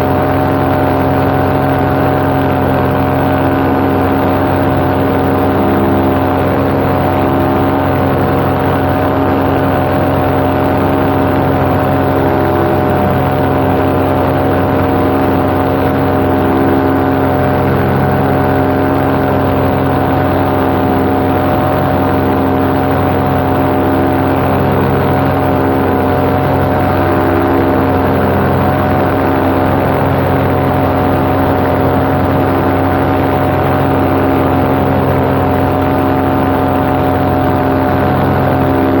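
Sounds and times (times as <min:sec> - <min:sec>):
paramotor engine droning: 0:00.0 - 0:39.0.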